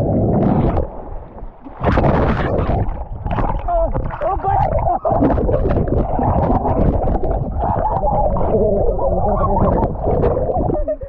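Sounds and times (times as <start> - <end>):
pool water churning and gurgling: 0.0 - 11.0.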